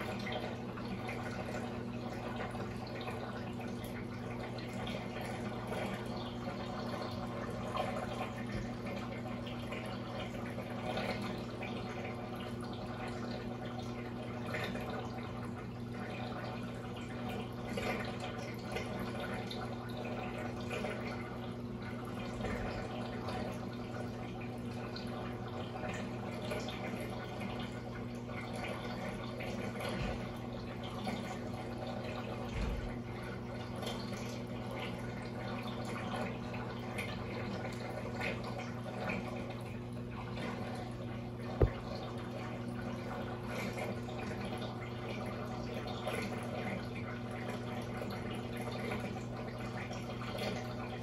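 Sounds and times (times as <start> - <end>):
aquarium water trickling: 0.0 - 51.0
low pump hum: 0.0 - 51.0.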